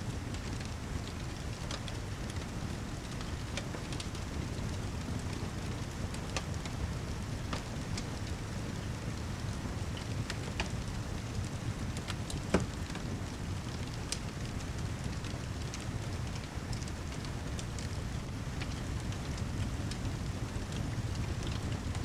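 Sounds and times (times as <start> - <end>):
steady rain: 0.0 - 22.0
fireplace crackling and popping: 0.1 - 22.0.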